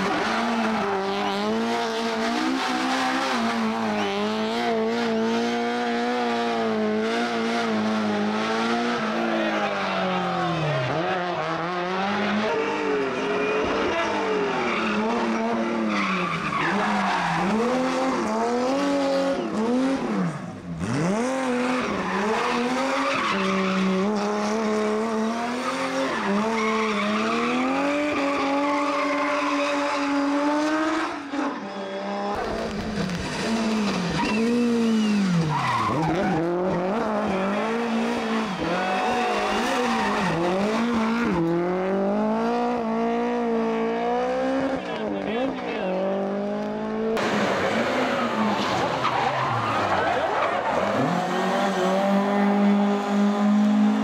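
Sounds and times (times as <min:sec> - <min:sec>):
rally car engines revving: 0:00.0 - 0:54.0
tyres skidding: 0:00.0 - 0:54.0.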